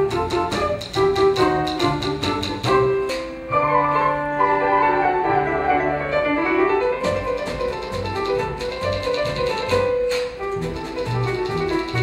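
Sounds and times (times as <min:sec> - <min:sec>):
piano: 0:00.0 - 0:12.0.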